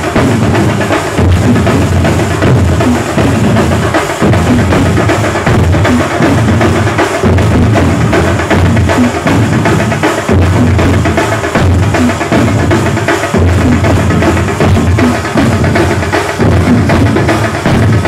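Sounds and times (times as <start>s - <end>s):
barrel drums beating: 0.0s - 18.0s
cymbals: 0.0s - 18.0s.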